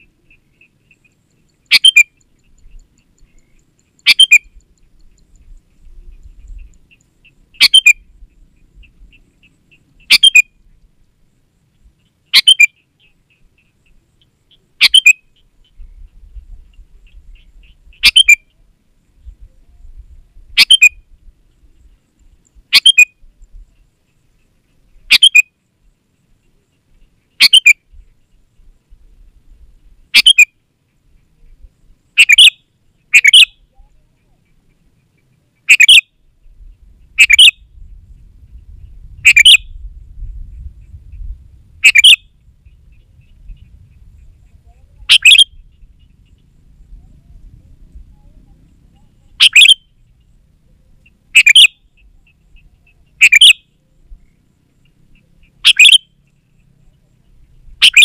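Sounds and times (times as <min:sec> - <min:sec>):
bird calling: 0:00.0 - 0:11.1, 0:11.7 - 0:19.8, 0:20.5 - 0:58.0.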